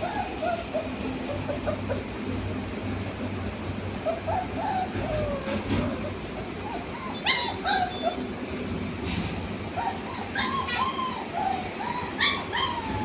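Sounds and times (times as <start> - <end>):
puppies whimpering and yipping: 0.0 - 2.4, 4.0 - 8.7, 9.7 - 13.0.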